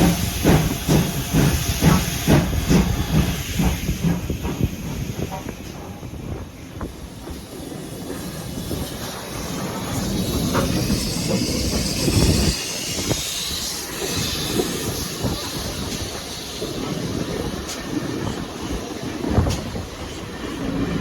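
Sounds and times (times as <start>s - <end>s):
steam hissing: 0.0s - 21.0s
steam train rumbling: 0.0s - 21.0s.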